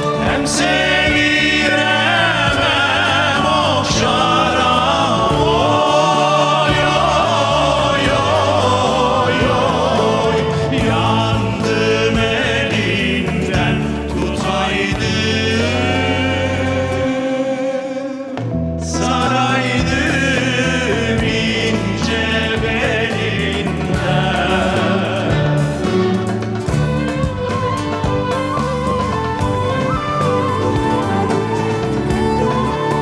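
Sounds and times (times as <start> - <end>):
instrumental accompaniment: 0.0 - 33.0
men singing a folk song: 0.0 - 33.0.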